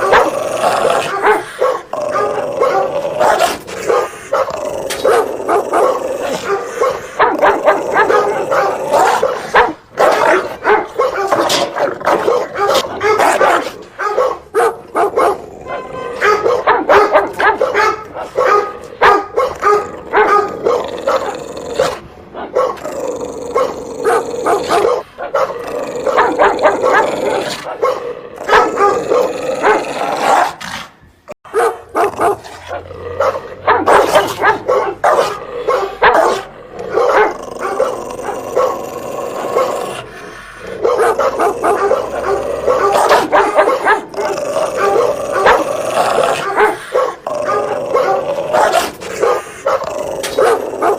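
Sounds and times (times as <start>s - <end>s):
dog barking loudly: 0.0s - 30.6s, 31.4s - 50.9s.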